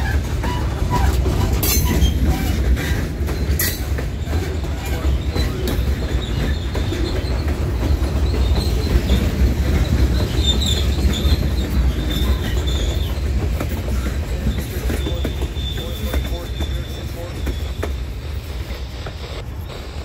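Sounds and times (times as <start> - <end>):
high wheel squeal: 0.0 - 18.9
train wheels clacking on rails: 0.0 - 19.4.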